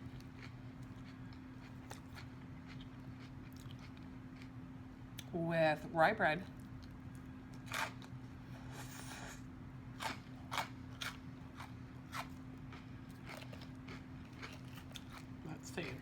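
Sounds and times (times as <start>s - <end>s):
chewing salad crunches: 0.0s - 4.6s, 6.6s - 16.0s
faint low hum: 0.0s - 16.0s.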